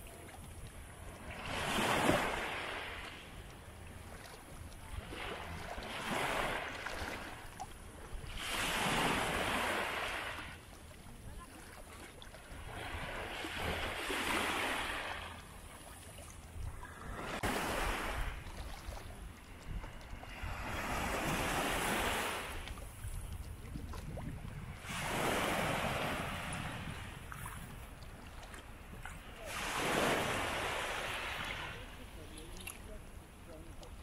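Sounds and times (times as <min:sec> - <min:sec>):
sea waves breaking: 0:00.0 - 0:34.0.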